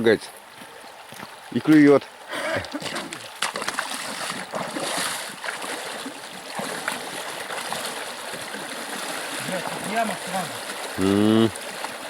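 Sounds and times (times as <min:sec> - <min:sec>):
river water sloshing: 0:00.4 - 0:12.0
sharp water splashes: 0:01.7 - 0:12.0.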